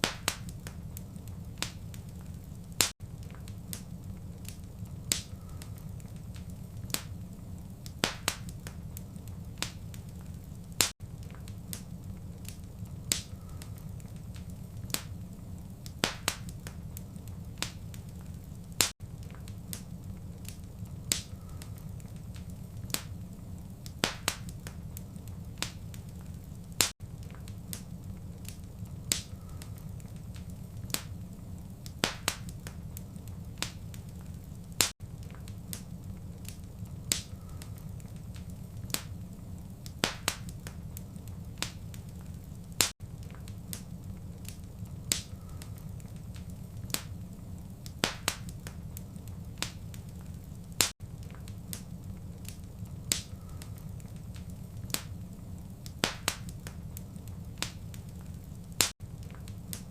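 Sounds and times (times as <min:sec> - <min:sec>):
low rumble of flames: 0:00.0 - 0:59.9
wood fire popping and snapping: 0:00.0 - 0:59.9.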